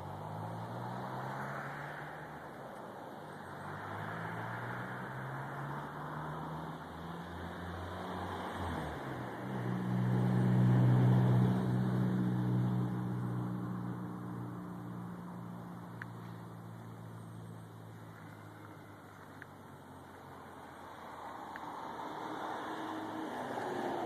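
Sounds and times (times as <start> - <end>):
passing motor engine hum: 0.0 - 24.0.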